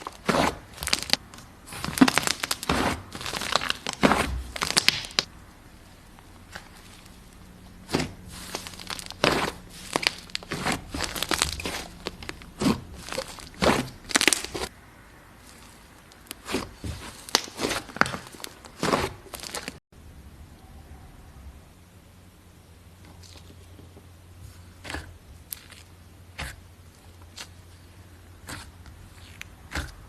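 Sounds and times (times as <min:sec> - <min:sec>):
slime crackling and squishing: 0:00.0 - 0:14.7, 0:15.4 - 0:19.8, 0:24.5 - 0:30.0.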